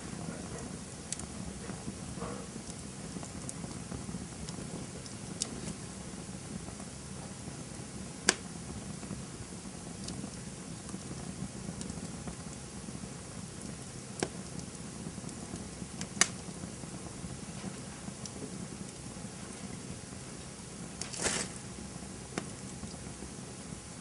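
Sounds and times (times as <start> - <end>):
sharp fire pops: 0.0 - 23.7
campfire flames rumbling: 0.0 - 24.0
fire crackling: 0.0 - 24.0.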